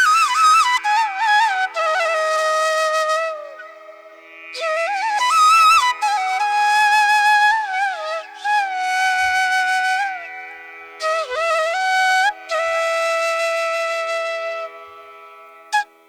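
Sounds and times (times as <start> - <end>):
solo flute melody: 0.0 - 16.0.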